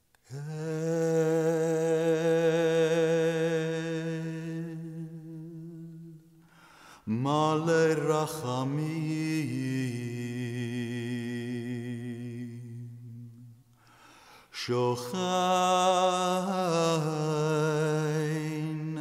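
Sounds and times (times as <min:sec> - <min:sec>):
man chanting: 0:00.3 - 0:06.2, 0:07.1 - 0:13.4, 0:14.6 - 0:19.0.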